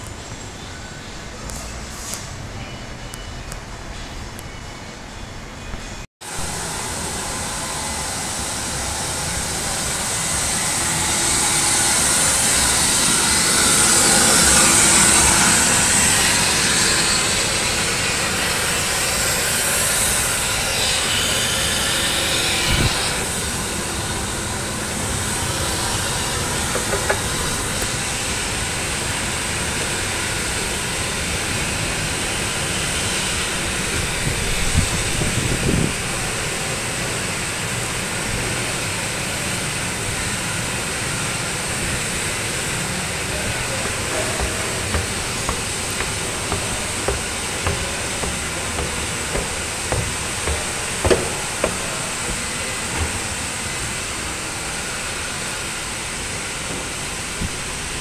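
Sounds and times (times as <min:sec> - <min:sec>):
escalator hiss and hum: 0:05.8 - 0:58.0.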